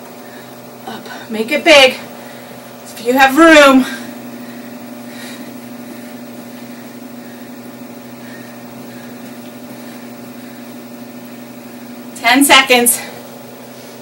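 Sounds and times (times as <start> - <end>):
steady low drone hum: 0.0 - 14.0.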